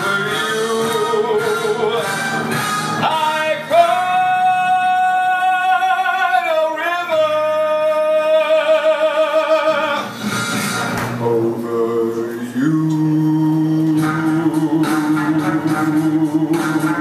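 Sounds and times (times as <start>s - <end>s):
person singing slow ballad: 0.0s - 10.5s, 11.2s - 17.0s.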